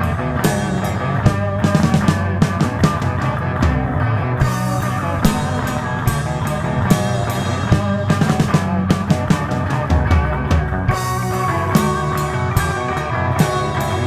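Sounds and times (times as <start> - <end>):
bass notes: 0.0 - 14.0
drums hitting: 0.0 - 14.0
guitar: 0.0 - 14.0
instrumental progressive rock band: 0.0 - 14.0.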